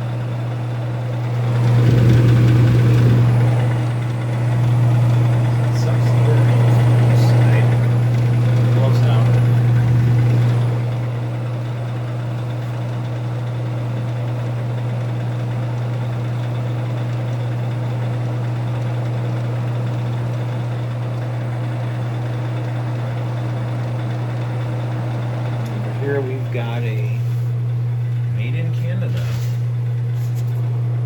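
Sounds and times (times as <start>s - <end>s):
dehumidifier humming: 0.0s - 31.0s.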